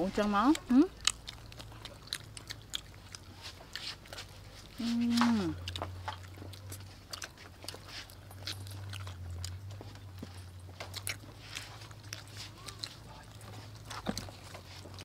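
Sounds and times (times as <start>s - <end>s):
crunchy chewing of fried chicken: 0.0s - 15.0s.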